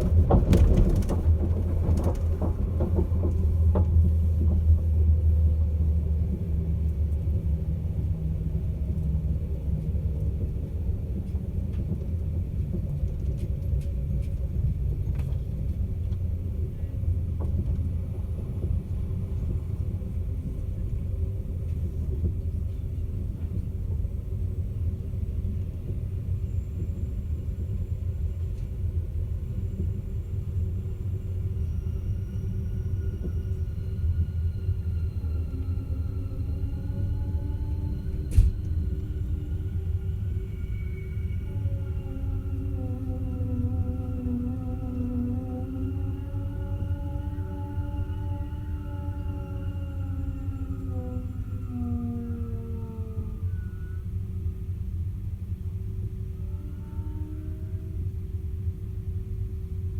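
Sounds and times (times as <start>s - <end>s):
train rumbling along tracks: 0.0s - 59.9s.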